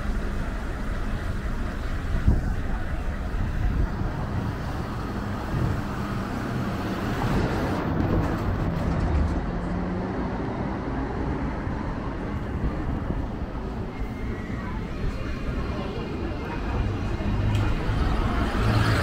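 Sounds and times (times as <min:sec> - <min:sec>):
minibus engine running: 0:00.0 - 0:19.0
street traffic noise: 0:00.0 - 0:19.0.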